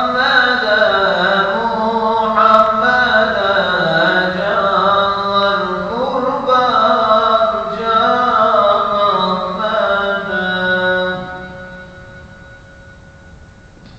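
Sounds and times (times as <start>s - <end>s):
man chanting into microphone: 0.0s - 12.0s.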